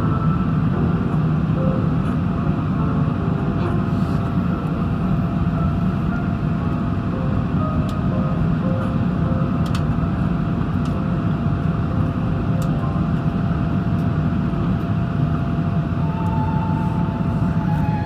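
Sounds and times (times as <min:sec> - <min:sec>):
airliner engine rumble: 0:00.0 - 0:18.0.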